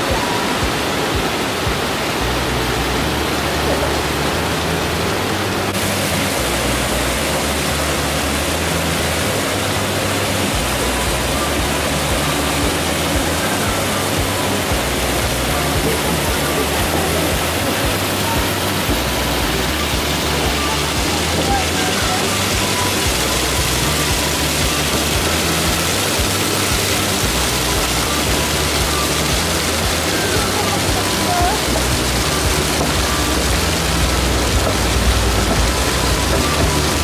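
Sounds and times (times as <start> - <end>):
music with bass notes: 0.0 - 37.0
water rushing through channels: 0.0 - 37.0.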